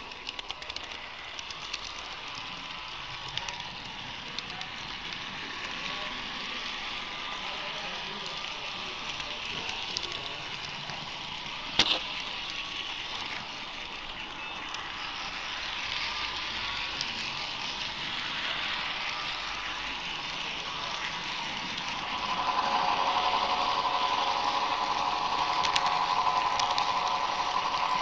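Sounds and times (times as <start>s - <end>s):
small electric motor whine: 0.0s - 28.0s
steady hiss: 0.0s - 28.0s.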